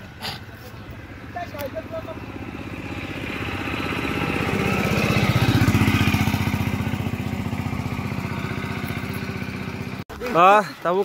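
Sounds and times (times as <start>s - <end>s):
passing vehicle engine: 0.0s - 10.0s.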